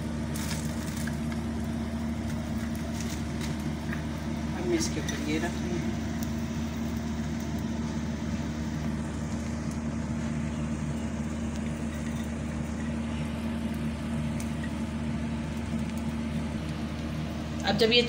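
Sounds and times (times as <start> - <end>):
low machine hum: 0.0 - 18.0
omelette sizzling in oil: 0.0 - 18.0.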